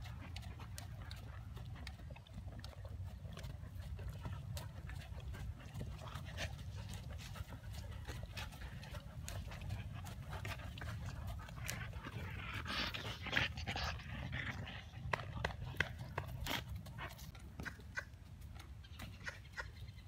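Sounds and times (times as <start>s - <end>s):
horse panting breaths: 0.0s - 19.8s
hooves and tack clicking: 0.0s - 20.0s.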